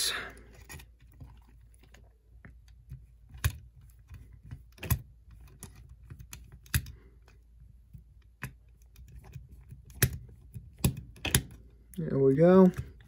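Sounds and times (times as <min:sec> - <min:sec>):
small parts clicking and tapping: 0:00.4 - 0:13.0.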